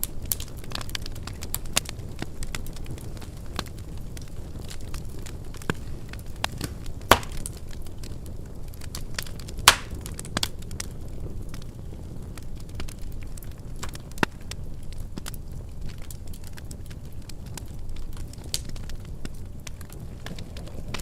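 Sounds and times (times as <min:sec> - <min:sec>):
loud fire pops: 0:00.0 - 0:21.0
low rumble of flames: 0:00.0 - 0:21.0
wood fire crackling: 0:00.0 - 0:21.0.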